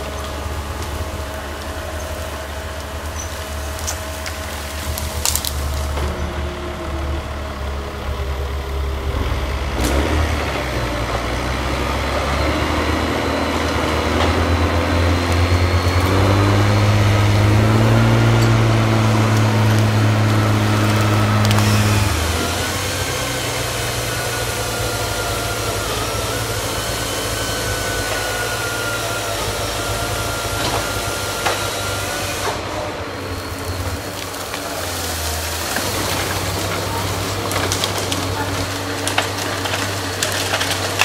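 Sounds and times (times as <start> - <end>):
diesel engines of forestry machines: 0.0 - 41.0
skidder hauling tree trunk: 0.0 - 41.0.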